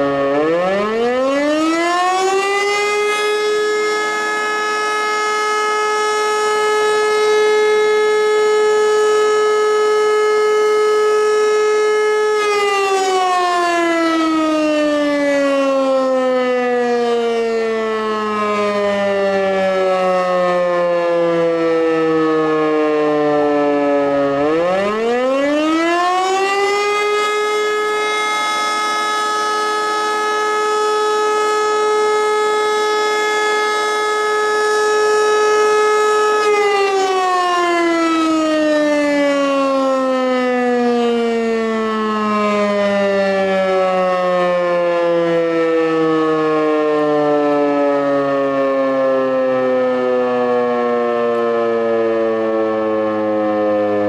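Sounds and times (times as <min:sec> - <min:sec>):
siren wailing: 0:00.0 - 0:54.0.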